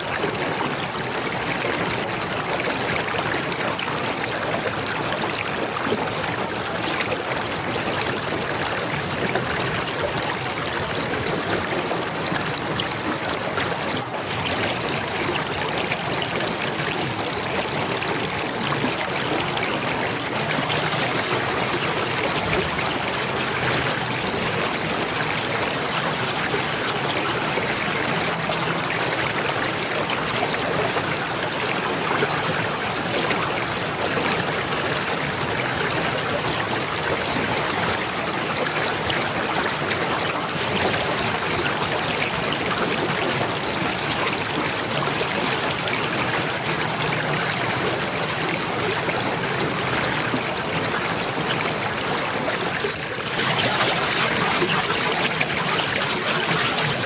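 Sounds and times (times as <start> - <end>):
water flowing and trickling: 0.0 - 57.0.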